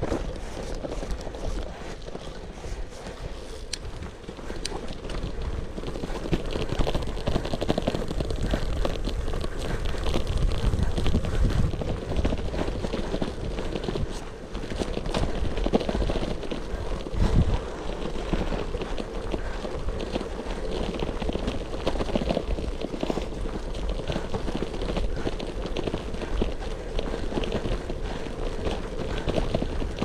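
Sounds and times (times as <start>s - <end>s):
bike rattling: 0.0s - 30.0s
bike tyres crunching gravel: 0.0s - 30.0s
wind rumble on microphone: 0.0s - 30.0s.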